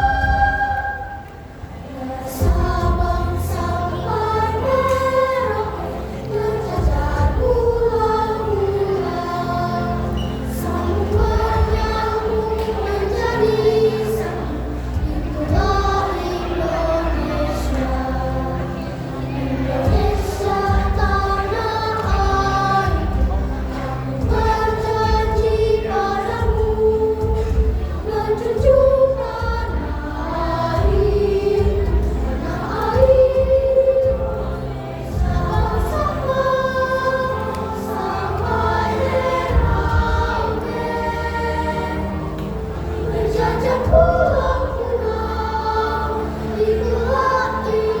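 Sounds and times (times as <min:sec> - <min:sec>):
choir singing slow song: 0:00.0 - 0:48.0.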